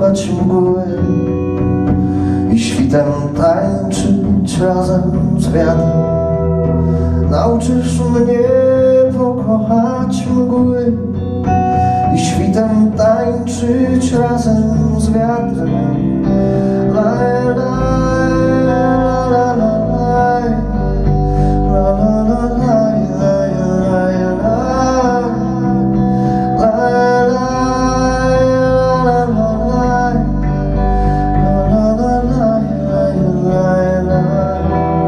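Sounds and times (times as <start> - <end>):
guitar chords: 0.0 - 35.0
wavering lead melody: 0.0 - 35.0.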